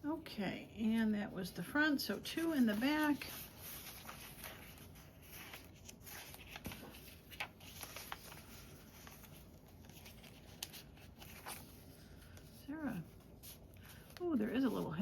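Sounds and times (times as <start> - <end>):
paper rustling: 2.1 - 15.0.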